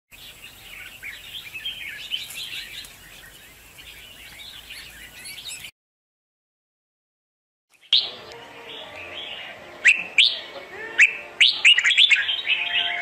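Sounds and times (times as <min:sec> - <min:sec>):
birds singing and calling: 0:00.1 - 0:05.7, 0:07.7 - 0:13.0.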